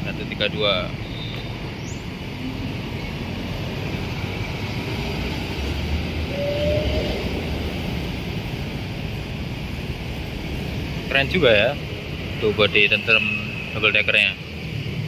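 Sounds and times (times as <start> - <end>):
bus engine driving past: 0.0 - 15.0
road traffic: 0.0 - 15.0.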